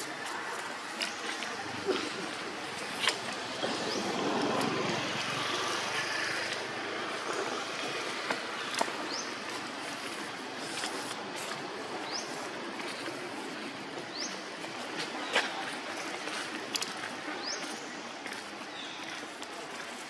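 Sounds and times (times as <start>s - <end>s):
steady noisy hiss: 0.0s - 20.0s.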